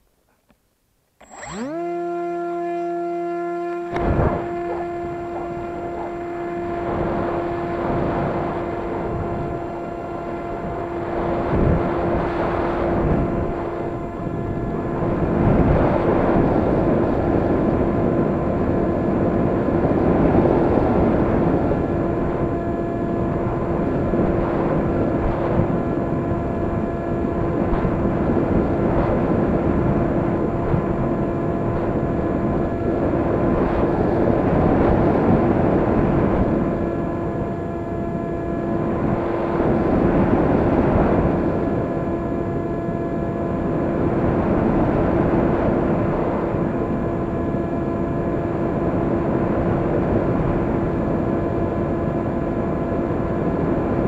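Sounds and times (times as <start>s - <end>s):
model airplane motor and propeller: 0.0s - 54.0s
wind rushing over microphone: 1.3s - 54.0s.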